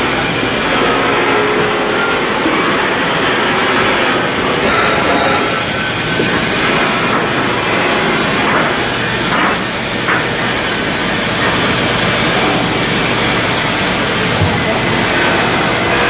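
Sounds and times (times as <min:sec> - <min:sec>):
construction machinery din: 0:00.0 - 0:16.0.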